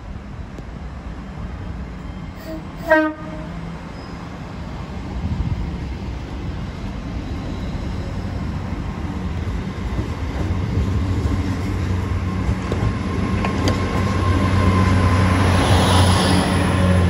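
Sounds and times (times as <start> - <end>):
train diesel engines humming: 0.0 - 17.0.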